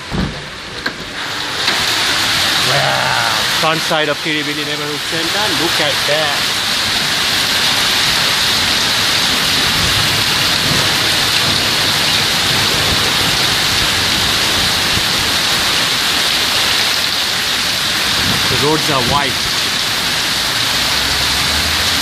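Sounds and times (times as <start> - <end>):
hail and heavy rain pelting: 0.0 - 22.0.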